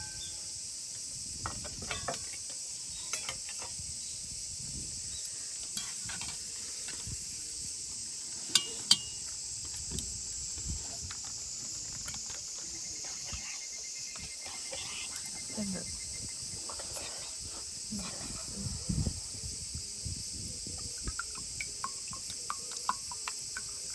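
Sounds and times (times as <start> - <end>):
night insects chirring: 0.0 - 23.9.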